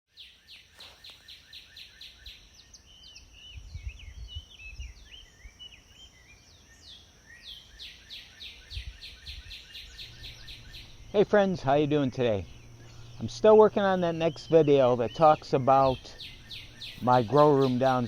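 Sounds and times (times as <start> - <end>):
birds singing: 0.1 - 18.0.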